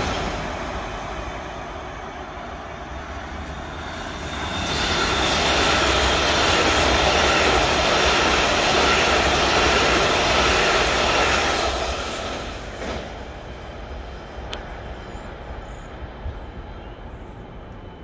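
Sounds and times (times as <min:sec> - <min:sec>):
metro train running past: 0:00.0 - 0:18.0.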